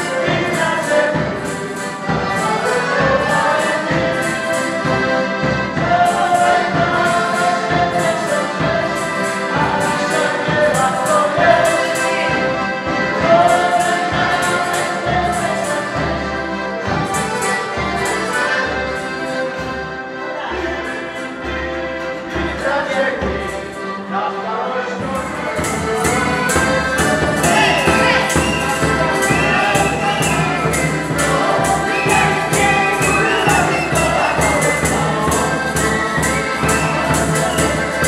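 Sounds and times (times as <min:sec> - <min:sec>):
accordions playing melody: 0:00.0 - 0:38.0
folk band playing dance tune: 0:00.0 - 0:38.0.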